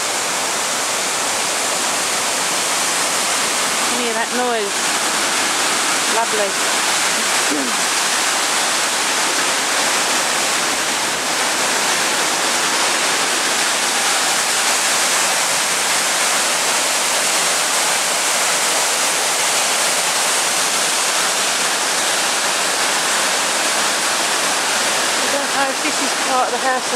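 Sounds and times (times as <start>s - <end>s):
flowing river water: 0.0s - 26.9s.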